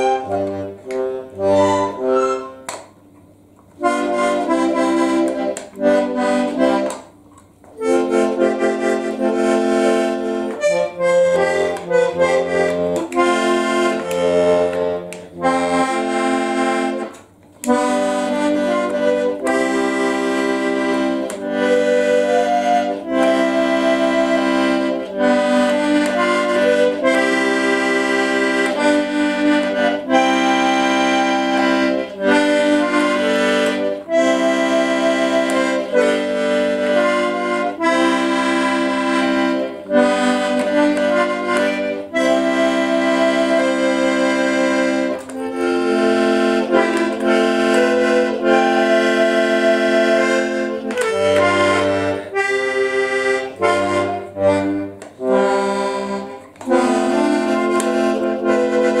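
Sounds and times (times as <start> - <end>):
button accordion playing a tune: 0.0 - 59.0.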